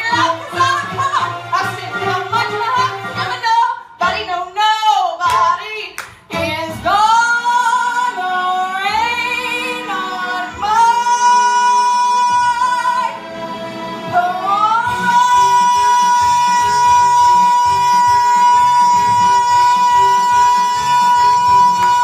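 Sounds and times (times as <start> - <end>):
woman singing show tune: 0.0 - 13.3, 14.1 - 22.0.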